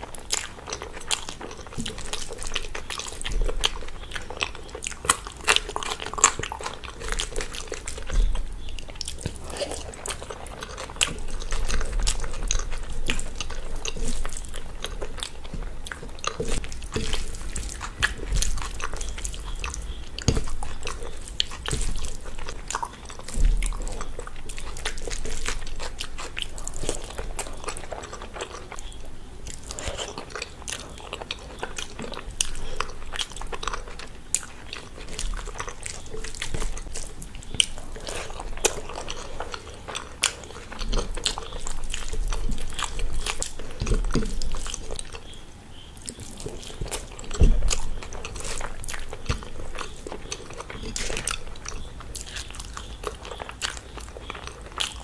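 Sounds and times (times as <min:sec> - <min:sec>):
chewing and mouth smacks: 0:00.0 - 0:55.0.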